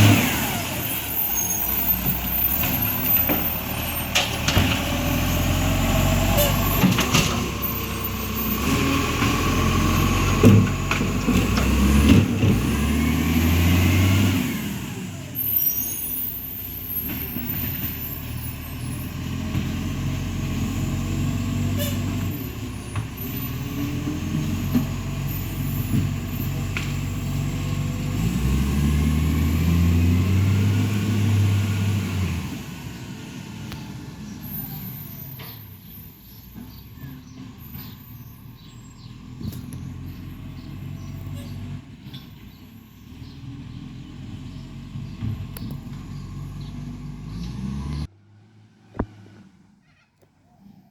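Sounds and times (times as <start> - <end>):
truck diesel engine revving: 0.0 - 49.5.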